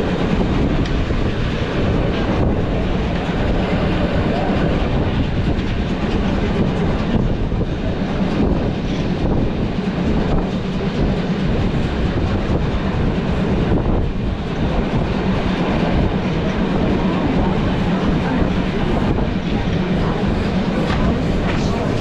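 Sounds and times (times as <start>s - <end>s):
train rumbling along track: 0.0s - 22.0s
wheel clatter on rails: 0.0s - 22.0s.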